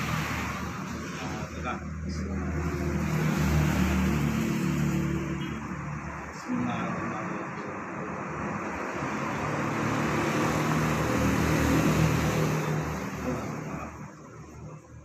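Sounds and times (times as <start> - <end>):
vehicle passing by: 0.0 - 14.7.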